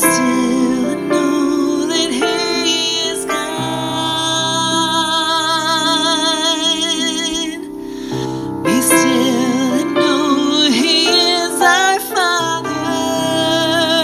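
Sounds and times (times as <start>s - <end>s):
piano accompaniment: 0.0s - 14.0s
woman singing worship song: 0.0s - 14.0s.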